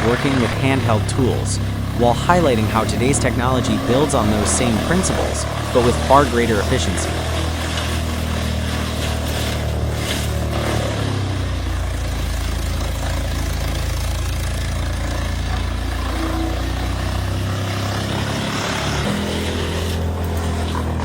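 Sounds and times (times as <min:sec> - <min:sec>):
wood chipper engine running: 0:00.0 - 0:21.0.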